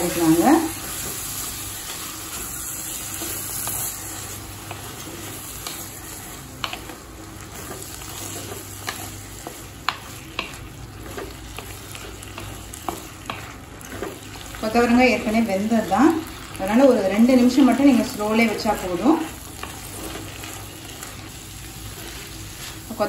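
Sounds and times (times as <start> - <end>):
beans sizzling in oil: 0.0 - 23.0.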